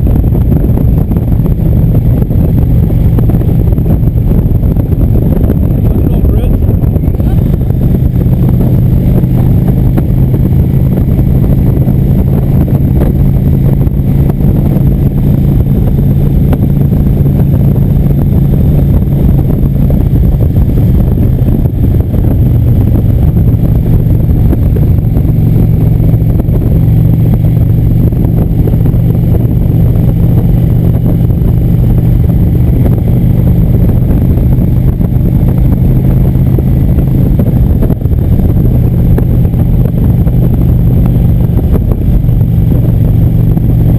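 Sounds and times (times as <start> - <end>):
motorcycle engine cruising: 0.0 - 43.9
road and wind rumble: 0.0 - 43.9.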